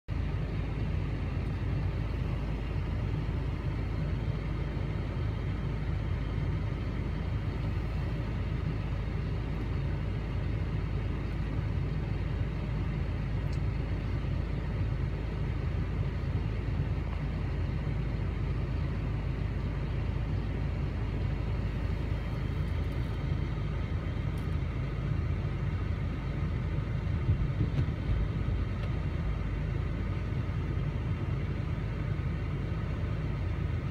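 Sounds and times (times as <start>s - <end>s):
vehicle engine rumbling: 0.0s - 33.9s.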